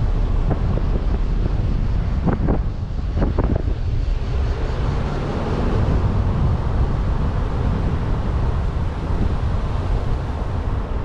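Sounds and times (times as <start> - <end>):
vehicle road rumble: 0.0 - 11.0
wind buffeting microphone: 0.0 - 11.0.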